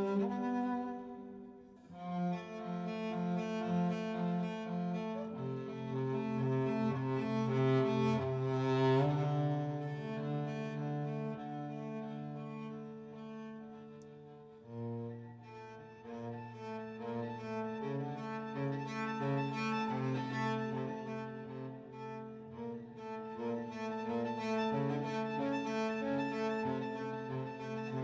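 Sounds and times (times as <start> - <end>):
low bowed strings: 0.0 - 28.0.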